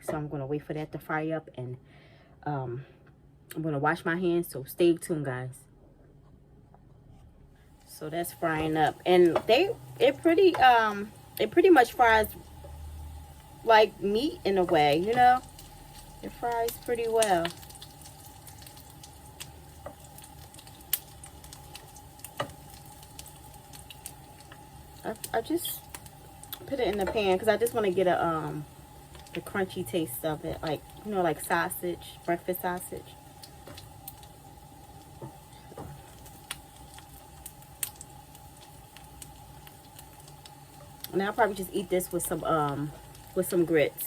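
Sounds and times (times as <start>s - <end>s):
sausages sizzling in a pan: 7.8s - 44.0s.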